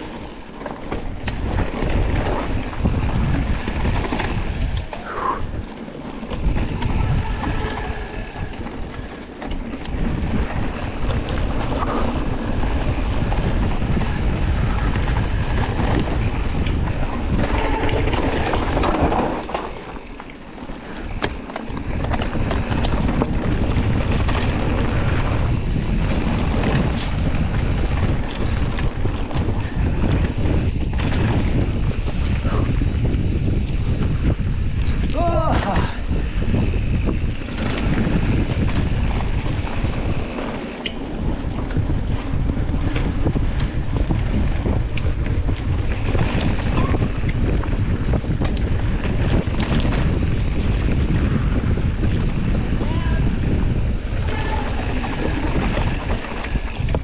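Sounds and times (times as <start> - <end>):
bike clicks and knocks: 0.0 - 57.0
wind rushing over microphone: 0.0 - 57.0.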